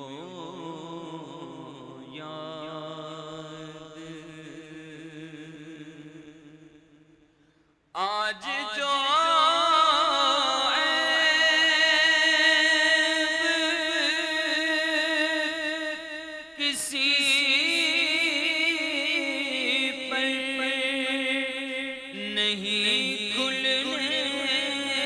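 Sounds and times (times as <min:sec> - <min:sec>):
man singing unaccompanied: 0:00.0 - 0:06.4, 0:08.0 - 0:25.0.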